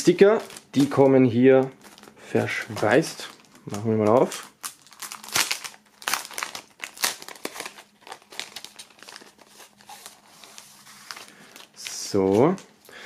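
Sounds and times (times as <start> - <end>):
plastic sleeve crinkling: 0.0 - 12.7.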